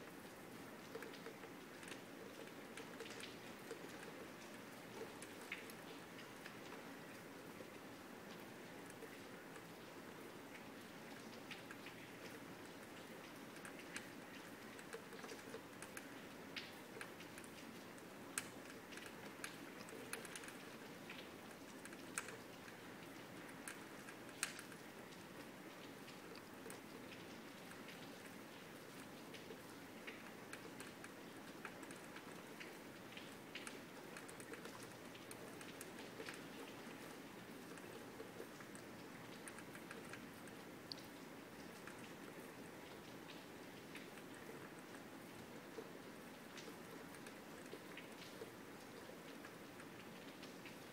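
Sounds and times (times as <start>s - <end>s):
soft steady rain hiss: 0.0s - 50.9s
raindrops ticking on glass door: 0.1s - 50.9s.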